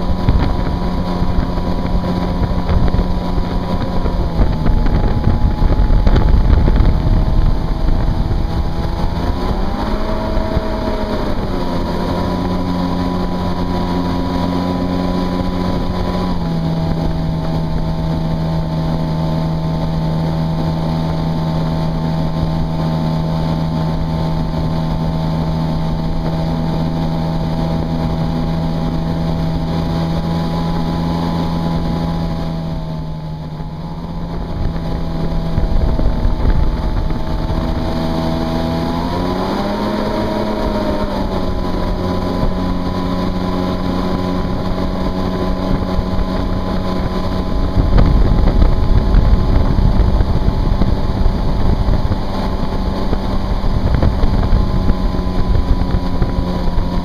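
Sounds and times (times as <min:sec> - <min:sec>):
jet ski engine droning: 0:00.0 - 0:57.0
wind and spray on microphone: 0:00.0 - 0:57.0.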